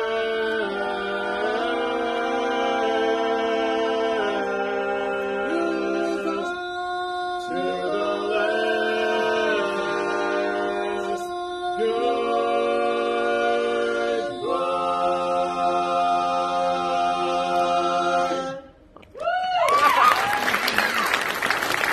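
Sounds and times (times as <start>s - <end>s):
male quartet singing a cappella: 0.0s - 18.8s.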